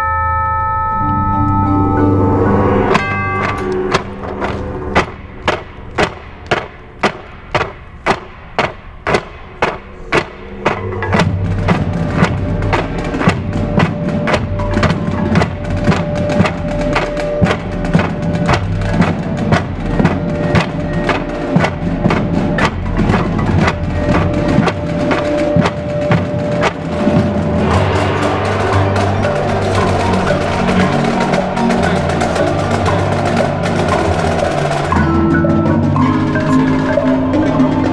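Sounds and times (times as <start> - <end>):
percussion ensemble playing: 0.0 - 37.9.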